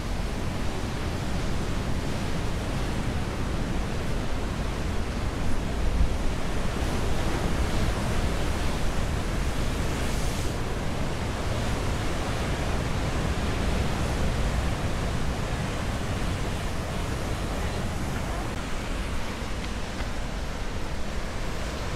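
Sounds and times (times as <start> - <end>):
ocean surf: 0.0 - 21.9.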